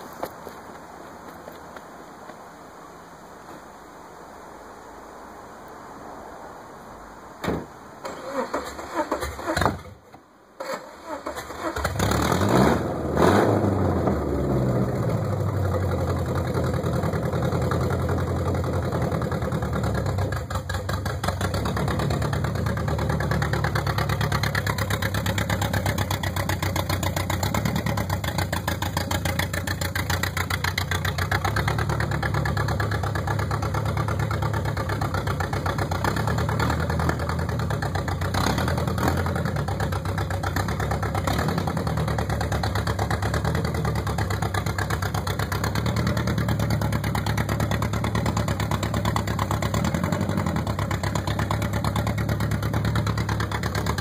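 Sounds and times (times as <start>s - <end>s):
car engine starting and revving: 8.0s - 10.0s, 10.6s - 54.0s.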